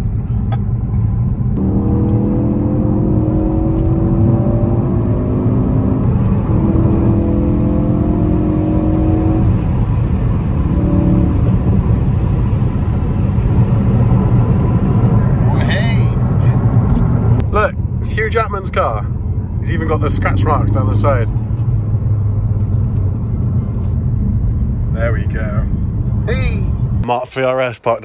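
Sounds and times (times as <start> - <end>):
car engine accelerating: 0.0 - 27.0
road rumble: 0.0 - 28.0.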